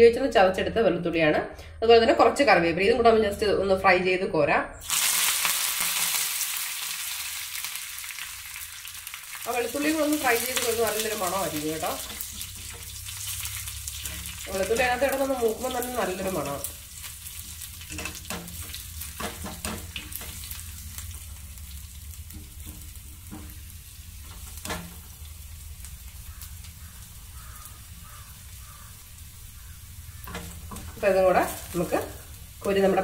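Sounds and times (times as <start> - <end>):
garlic sizzling in hot oil: 4.8 - 33.0.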